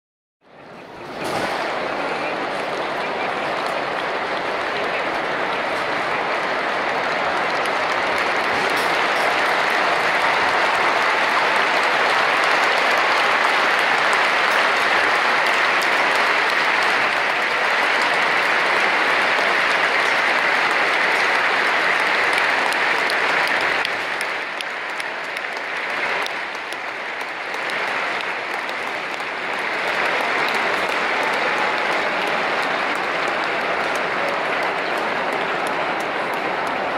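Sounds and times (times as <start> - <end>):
stadium crowd applauding: 0.6 - 36.9.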